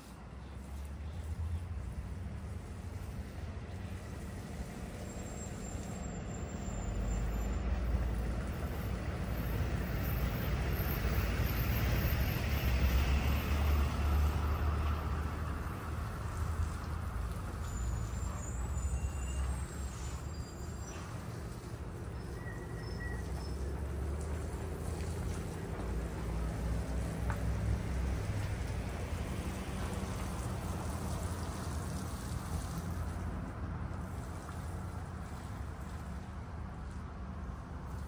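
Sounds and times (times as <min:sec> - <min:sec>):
road noise: 0:00.0 - 0:38.0
vehicle engine rumble: 0:00.0 - 0:38.0.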